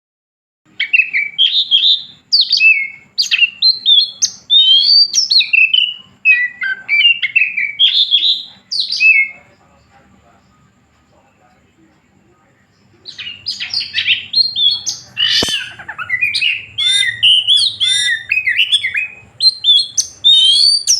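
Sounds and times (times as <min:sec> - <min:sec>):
songbird whistled song: 0:00.7 - 0:09.6, 0:12.7 - 0:20.9.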